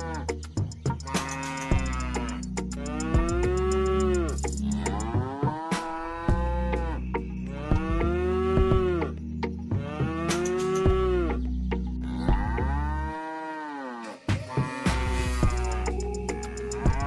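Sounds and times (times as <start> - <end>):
cow mooing: 0.0 - 0.3, 1.0 - 9.1, 9.8 - 11.1, 12.1 - 17.0.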